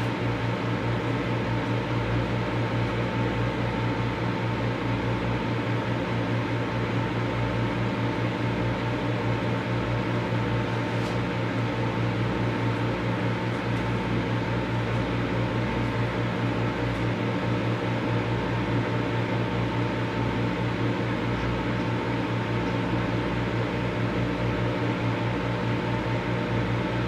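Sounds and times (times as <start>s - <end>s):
microwave oven humming: 0.0s - 27.0s.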